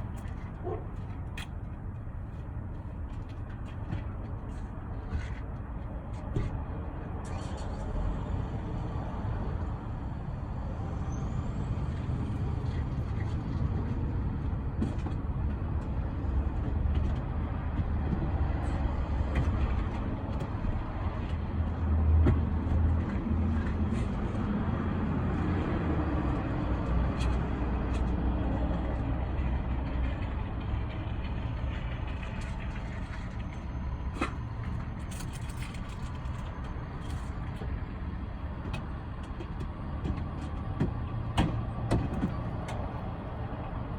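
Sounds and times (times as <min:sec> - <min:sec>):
car low rumble: 0:00.0 - 0:43.9.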